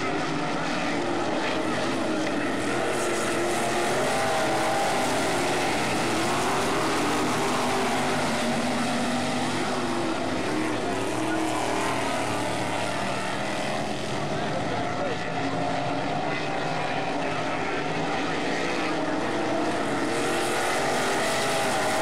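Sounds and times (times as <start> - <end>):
racing car engines droning: 0.0 - 22.0.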